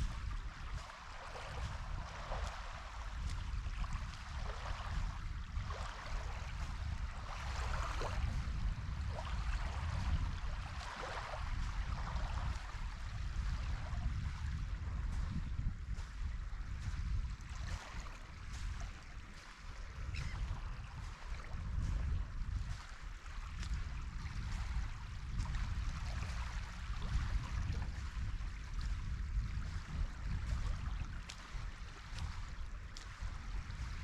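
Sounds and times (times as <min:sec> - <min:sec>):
small waves lapping and splashing: 0:00.0 - 0:34.0
wind rumble on microphone: 0:00.0 - 0:34.0.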